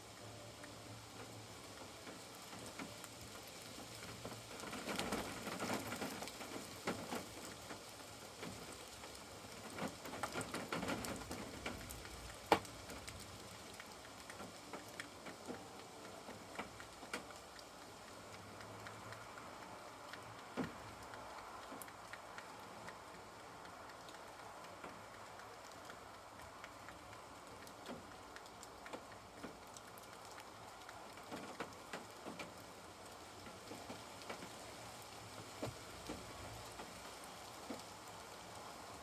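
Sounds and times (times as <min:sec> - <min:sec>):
rain pattering on a caravan roof: 0:00.0 - 0:39.0
sharp raindrop tap: 0:01.2 - 0:34.6, 0:35.3 - 0:37.0, 0:37.6 - 0:38.6.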